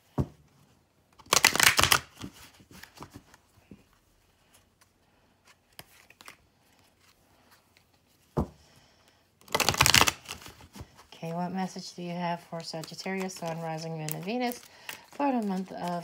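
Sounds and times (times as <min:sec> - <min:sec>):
cards shuffling: 0:01.1 - 0:08.3, 0:09.4 - 0:16.0.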